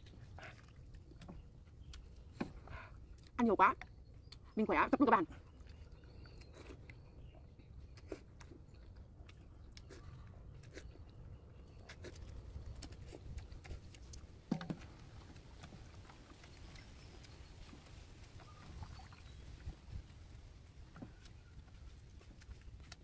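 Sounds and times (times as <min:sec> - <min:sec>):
chewing noodles: 0:00.0 - 0:04.6, 0:05.2 - 0:23.0.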